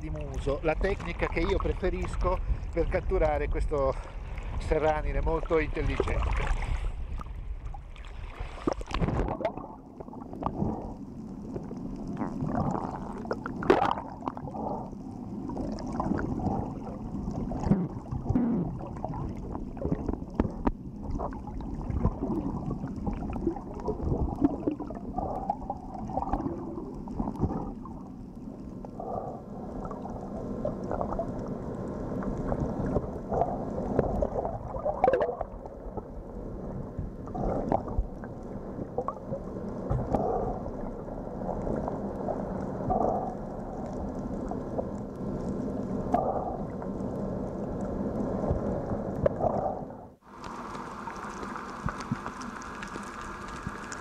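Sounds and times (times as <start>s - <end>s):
muffled underwater gurgling: 0.0s - 6.9s, 8.4s - 54.0s.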